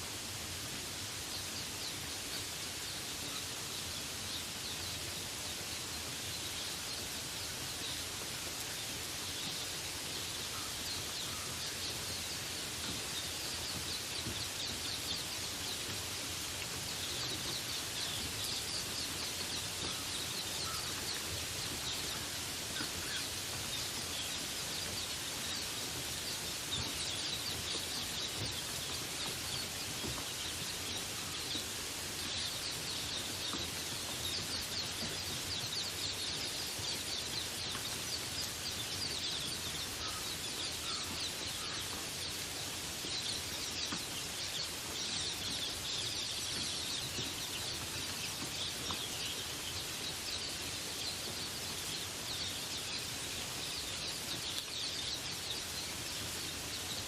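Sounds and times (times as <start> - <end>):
rain hiss: 0.0 - 57.0
small birds trilling: 0.7 - 57.0.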